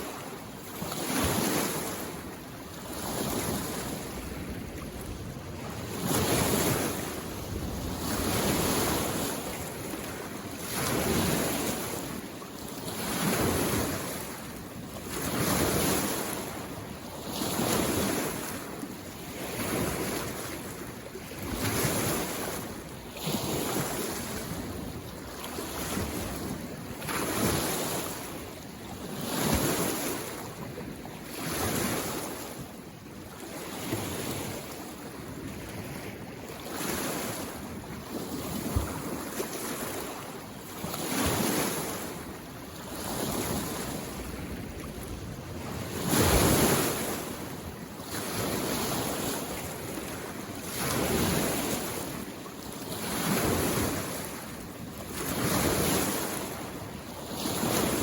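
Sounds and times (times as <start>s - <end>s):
small waves washing on shore: 0.0s - 58.0s.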